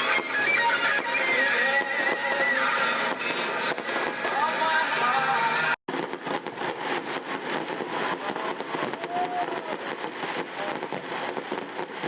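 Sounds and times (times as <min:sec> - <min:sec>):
fireworks crackling: 0:00.0 - 0:12.0
outdoor hubbub with faint voices: 0:00.0 - 0:12.0.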